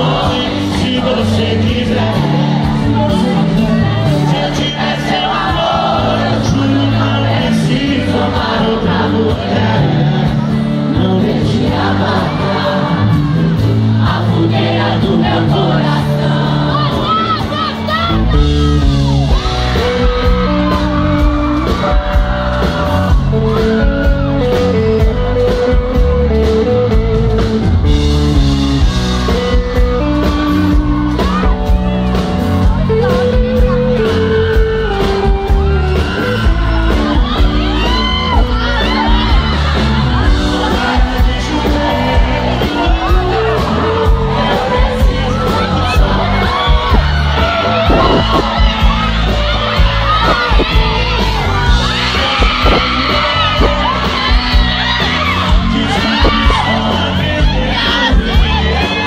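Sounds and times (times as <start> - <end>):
crowd shouting: 0.0 - 24.6, 28.8 - 59.0
live band with singing: 0.0 - 59.0.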